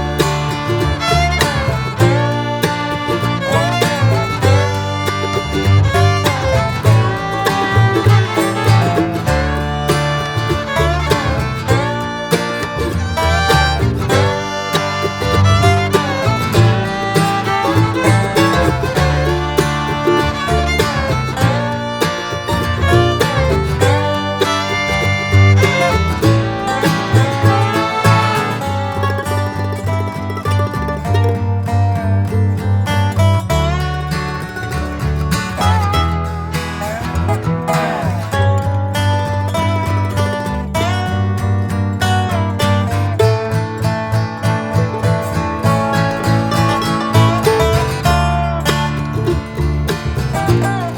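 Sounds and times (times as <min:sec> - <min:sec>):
bluegrass fiddle and banjo music: 0:00.0 - 0:50.9.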